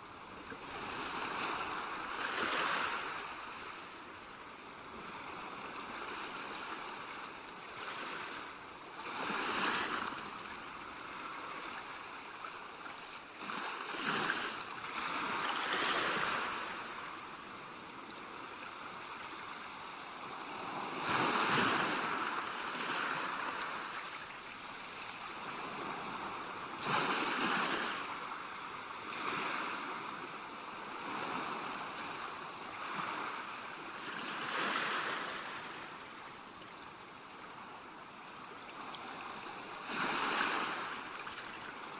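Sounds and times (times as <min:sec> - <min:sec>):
sea waves breaking on shore: 0:00.0 - 0:41.9.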